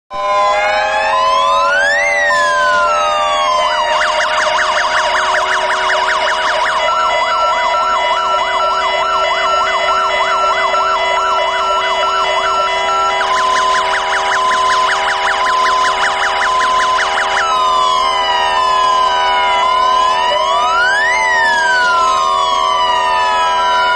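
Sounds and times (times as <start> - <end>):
fire engine siren wailing: 0.1 - 23.9
two-tone siren: 0.1 - 23.9.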